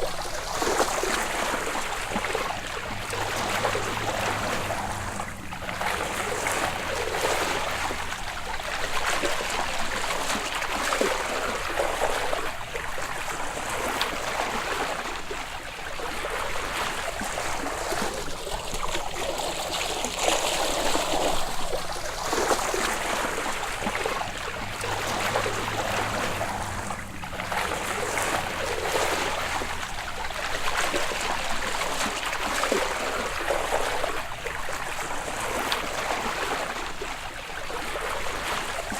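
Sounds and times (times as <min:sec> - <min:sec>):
water sloshing and lapping: 0:00.0 - 0:38.9.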